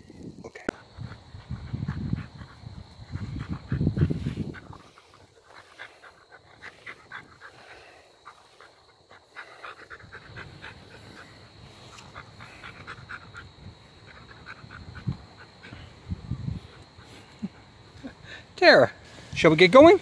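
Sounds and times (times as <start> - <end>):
dog panting: 0.7 - 18.3.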